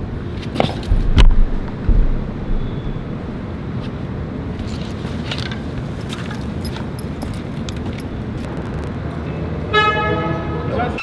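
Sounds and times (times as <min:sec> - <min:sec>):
low vehicle rumble: 0:00.0 - 0:09.7.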